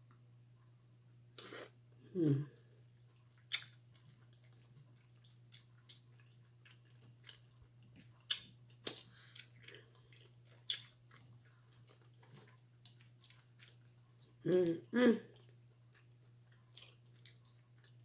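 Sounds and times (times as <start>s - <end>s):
chewing and mouth smacks: 2.8s - 18.0s.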